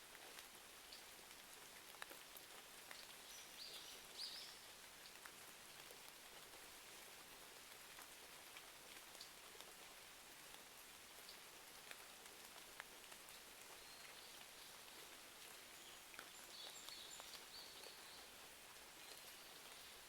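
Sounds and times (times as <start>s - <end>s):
faint rain: 0.0s - 20.0s.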